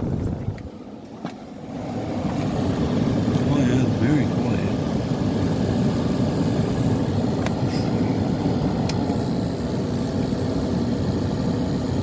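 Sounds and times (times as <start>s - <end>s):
air conditioner fan rushing: 0.0s - 12.0s.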